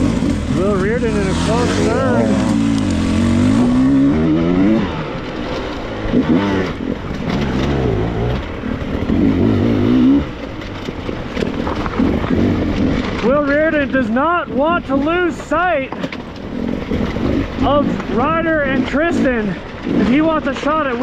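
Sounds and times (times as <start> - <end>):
dirt bike engine revving: 0.0 - 15.8, 16.4 - 21.0.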